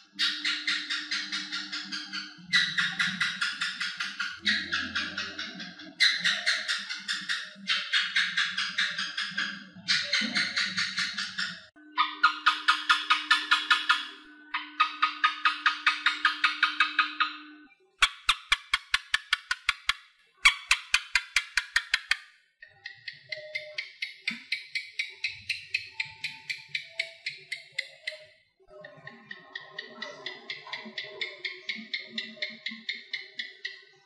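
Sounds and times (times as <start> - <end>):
geckos chirping: 0.0 - 34.0.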